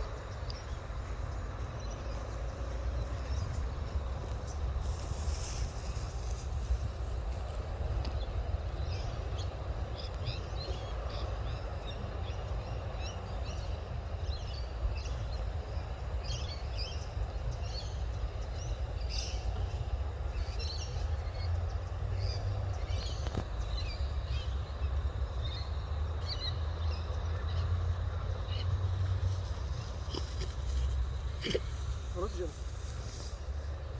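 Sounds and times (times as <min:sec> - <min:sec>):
birds chirping: 0:00.0 - 0:33.9
steady low rumble: 0:00.0 - 0:33.9.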